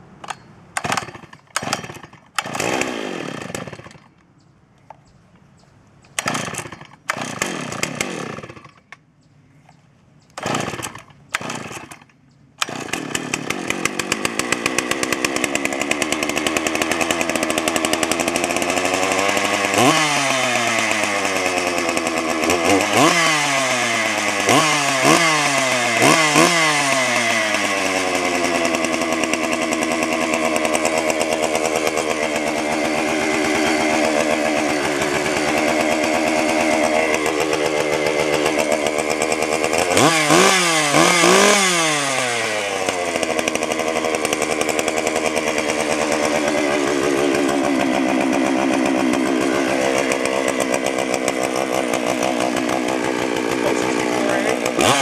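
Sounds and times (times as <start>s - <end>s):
chainsaw starting and revving: 0.2s - 4.2s, 6.1s - 9.0s, 10.4s - 55.0s.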